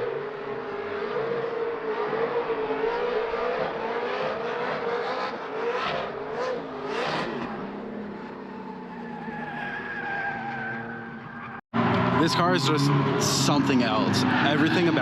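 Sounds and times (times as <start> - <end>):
tyres skidding: 0.1 - 15.0.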